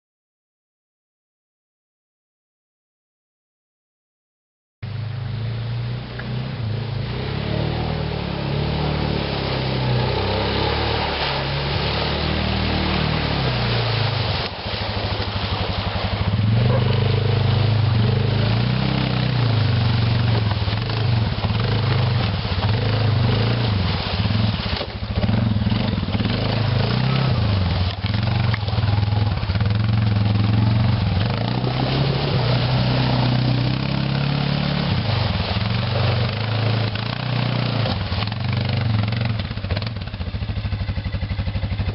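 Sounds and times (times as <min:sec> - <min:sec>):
atv engine revving: 0:05.0 - 0:41.9.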